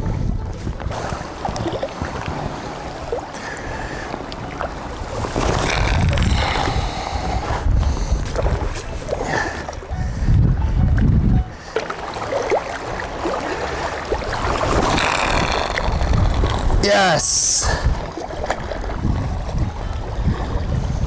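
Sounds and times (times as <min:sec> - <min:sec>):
wind buffeting microphone: 0:00.0 - 0:16.9, 0:17.6 - 0:21.0
waves lapping against rocks: 0:00.0 - 0:21.0.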